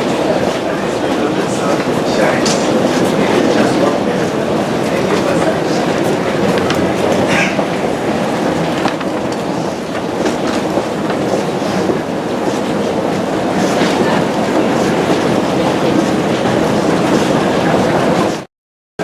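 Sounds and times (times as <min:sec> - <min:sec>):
transit train rumbling: 0:00.0 - 0:18.5
wheels clattering on track: 0:00.0 - 0:18.5.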